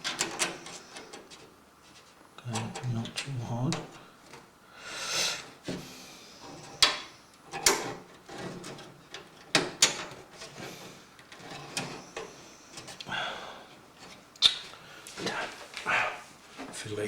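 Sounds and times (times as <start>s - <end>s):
scraping and handling noise: 0.0s - 4.6s, 5.2s - 17.0s.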